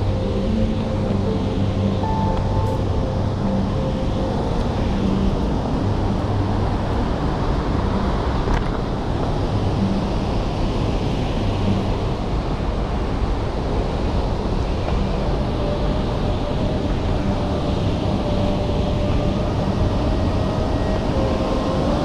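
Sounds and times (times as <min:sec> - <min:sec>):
river rushing through gorge: 0:00.0 - 0:22.0
wind on microphone: 0:00.0 - 0:22.0.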